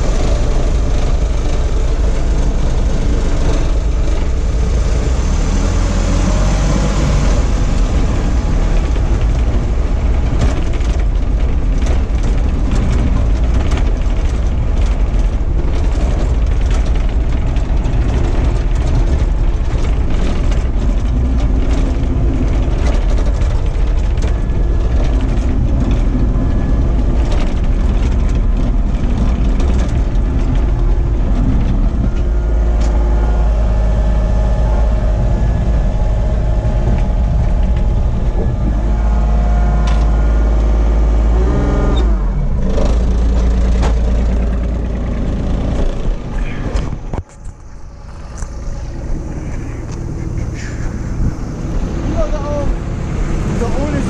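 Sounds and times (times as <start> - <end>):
diesel engine rumbling: 0.0 - 54.0.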